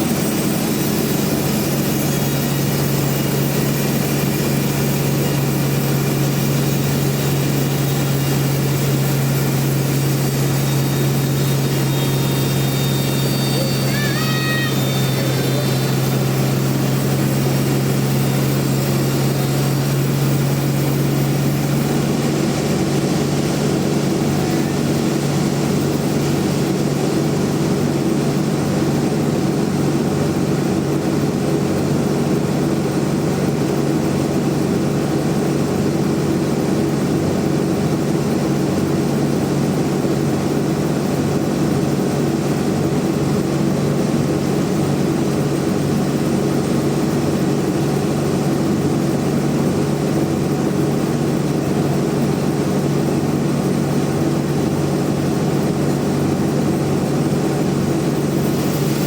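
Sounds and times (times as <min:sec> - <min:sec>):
band sawmill droning: 0:00.0 - 0:31.4, 0:40.1 - 0:59.0.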